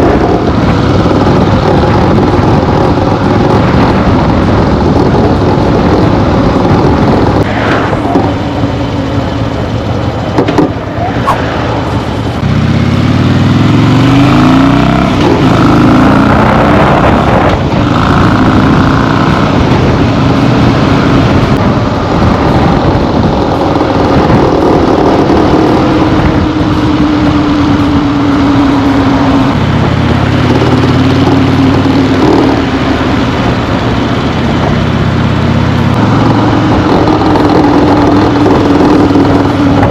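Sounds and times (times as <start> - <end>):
motorcycle engine revving: 0.0 - 7.5, 8.2 - 39.9.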